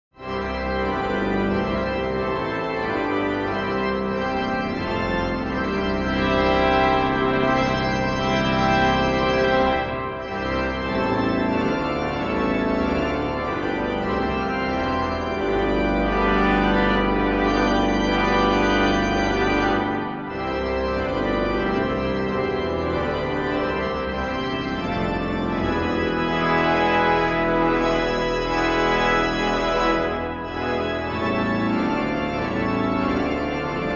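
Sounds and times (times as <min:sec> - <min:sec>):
organ playing held chords: 0:00.2 - 0:33.9.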